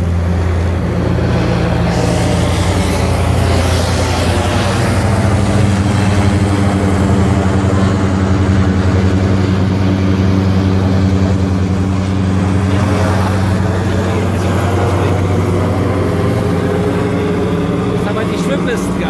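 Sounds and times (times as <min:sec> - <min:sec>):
airship propeller engines droning: 0:00.0 - 0:19.0.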